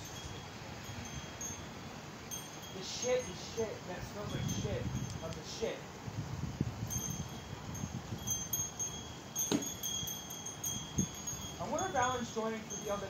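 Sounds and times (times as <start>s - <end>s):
wind chimes ringing: 0.0s - 5.8s, 6.8s - 13.0s.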